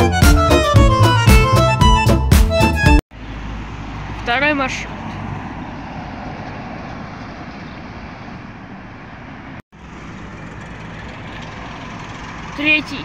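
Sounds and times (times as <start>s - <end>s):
road traffic: 0.0s - 13.0s
bus engine passing: 0.6s - 13.0s.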